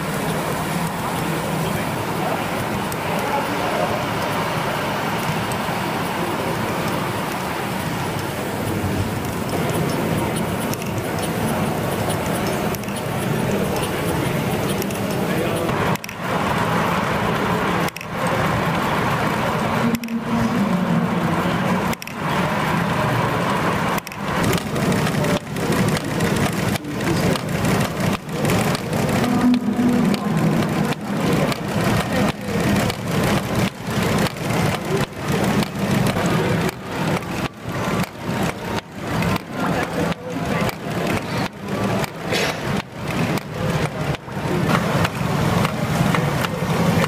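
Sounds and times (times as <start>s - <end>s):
steam model engines running: 0.0s - 47.0s
toy machinery clattering: 4.0s - 20.2s, 21.1s - 47.0s.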